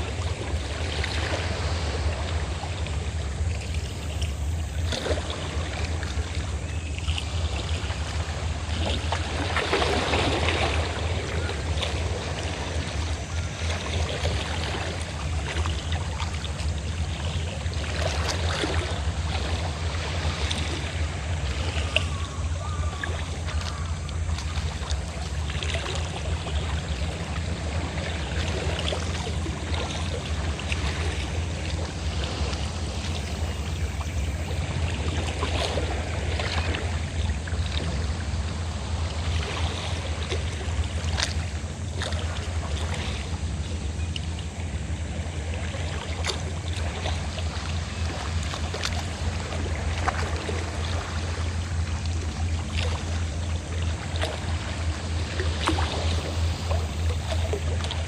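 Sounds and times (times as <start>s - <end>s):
sea waves washing: 0.0s - 43.6s, 45.3s - 58.0s
boat engine rumbling: 0.0s - 58.0s.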